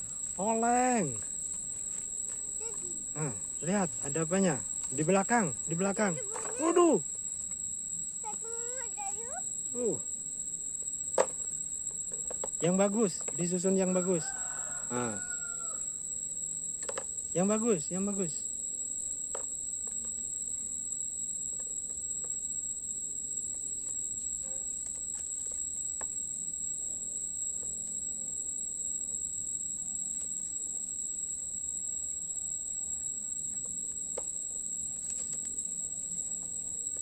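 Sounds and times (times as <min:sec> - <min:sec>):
high-pitched insect chorus: 0:00.0 - 0:37.0.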